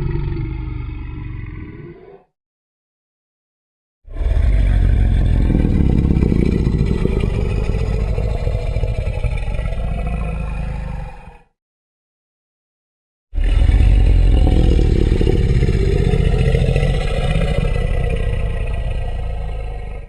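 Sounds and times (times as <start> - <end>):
deep rumbling monster roar: 0.0 - 2.3, 4.1 - 11.6, 13.4 - 20.0.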